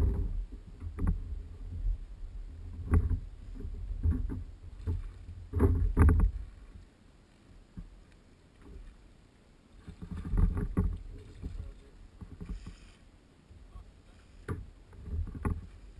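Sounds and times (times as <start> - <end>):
steady low rumble: 0.0 - 15.9
water splashing beside kayak: 0.0 - 15.9.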